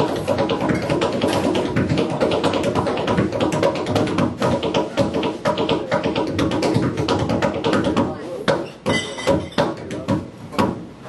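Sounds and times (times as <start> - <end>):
tap shoes on wooden stage: 0.0 - 10.8.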